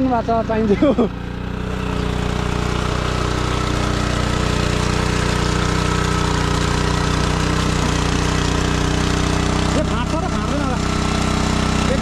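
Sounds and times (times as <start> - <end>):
farm machine engine running: 0.0 - 12.0.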